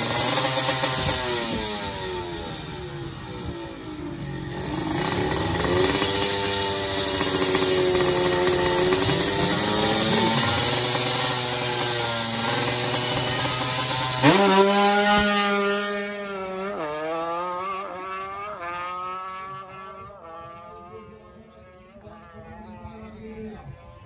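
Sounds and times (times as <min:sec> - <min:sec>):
motorcycle engine revving and accelerating: 0:00.0 - 0:23.1.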